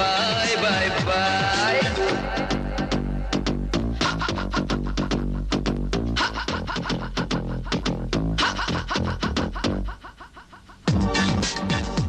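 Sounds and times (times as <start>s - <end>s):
upbeat dance song with guitar: 0.0s - 9.8s, 10.9s - 12.0s.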